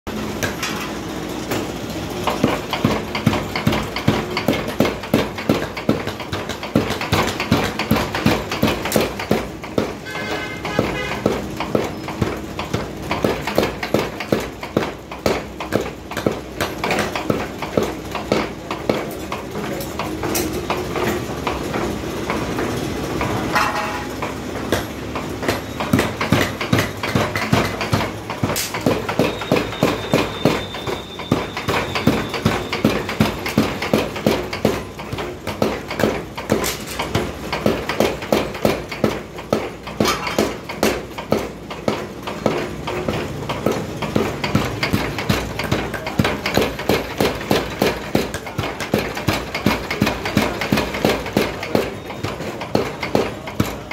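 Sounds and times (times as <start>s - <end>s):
power hammer pounding steel: 0.1s - 53.9s.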